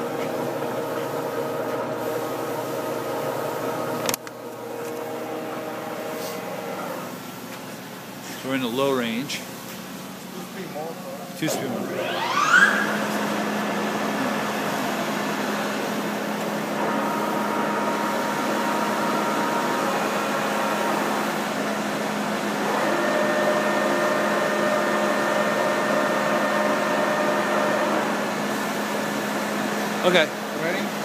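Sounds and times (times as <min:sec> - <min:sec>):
lathe humming with gear whine: 0:00.0 - 0:07.2, 0:11.5 - 0:31.0.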